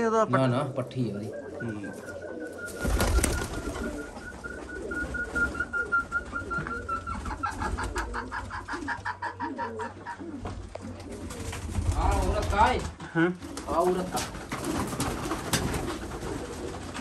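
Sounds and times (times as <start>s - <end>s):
pigeons cooing: 0.0s - 12.0s, 13.4s - 17.0s.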